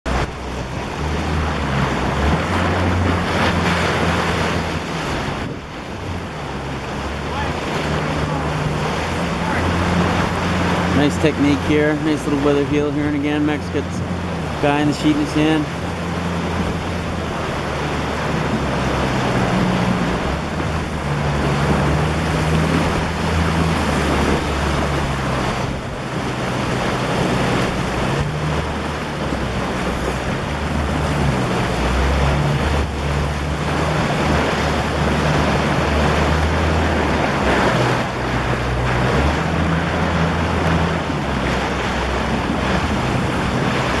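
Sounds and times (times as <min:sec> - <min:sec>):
wind and water rushing: 0:00.0 - 0:44.0.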